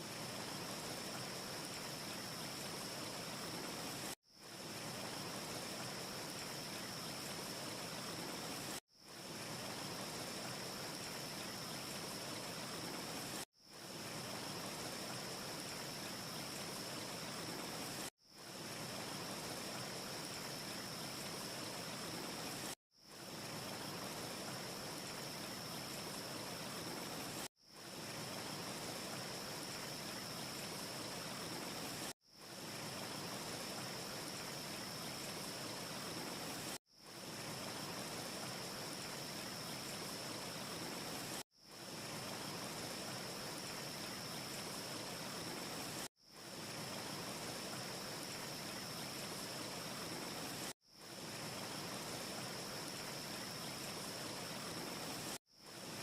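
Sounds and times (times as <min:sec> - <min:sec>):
steady rushing hiss with whistle: 0:00.0 - 0:56.0.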